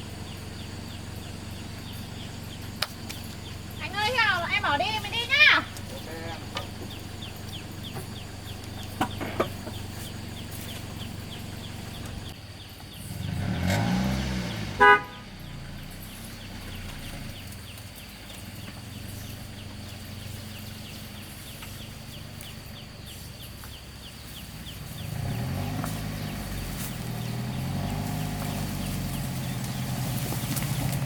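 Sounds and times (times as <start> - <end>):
high ticking or chirping: 0.0 - 14.6, 15.2 - 31.0
vehicle engine running: 0.0 - 31.0.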